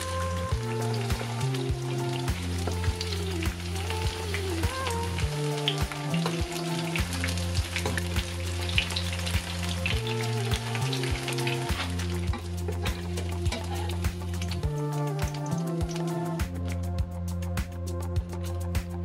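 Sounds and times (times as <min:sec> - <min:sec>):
patties sizzling in hot oil: 0:00.0 - 0:16.4
background music: 0:00.0 - 0:19.0.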